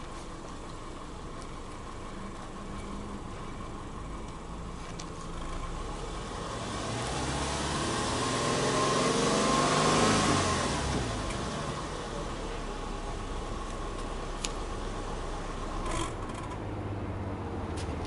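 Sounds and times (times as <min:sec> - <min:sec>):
car engine revving: 0:01.4 - 0:17.1.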